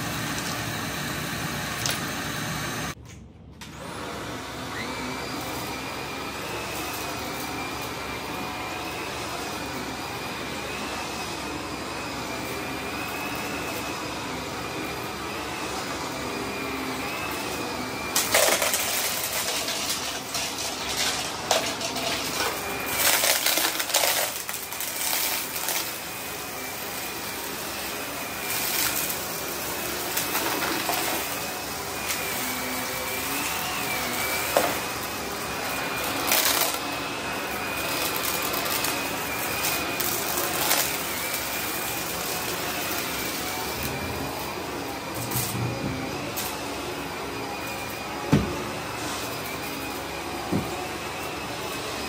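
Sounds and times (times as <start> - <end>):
vacuum cleaner whining: 0.0 - 52.0.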